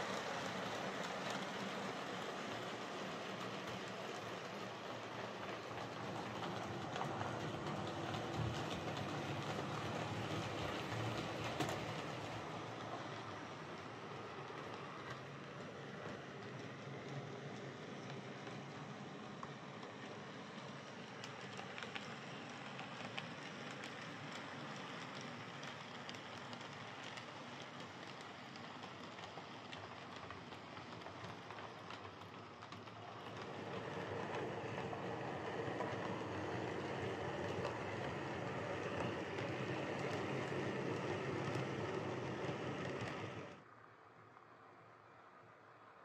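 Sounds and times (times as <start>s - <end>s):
model train rolling on track: 0.0s - 46.0s.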